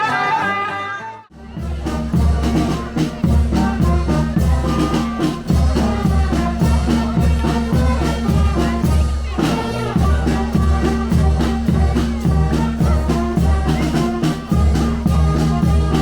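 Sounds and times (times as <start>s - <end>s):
upbeat music with drums and bass: 1.4s - 16.0s.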